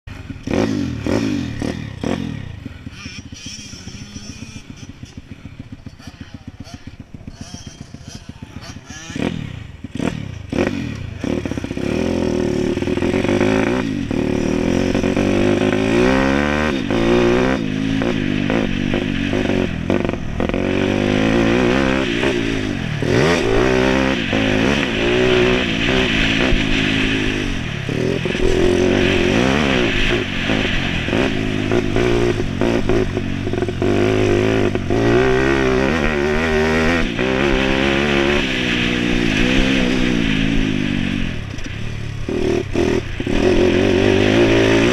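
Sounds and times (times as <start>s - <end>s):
motorbike engine revving: 0.0s - 44.9s.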